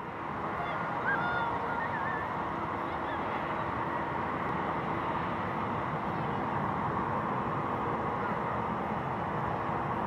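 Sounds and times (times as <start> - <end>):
jet engine rumble with whine: 0.0 - 10.0.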